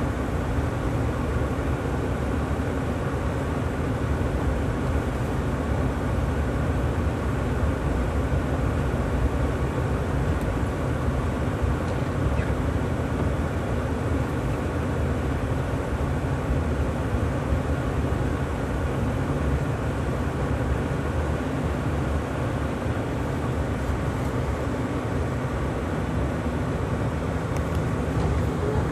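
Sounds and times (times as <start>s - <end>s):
truck engine rumbling: 0.0s - 28.9s
tyres on snowy road: 0.0s - 28.9s.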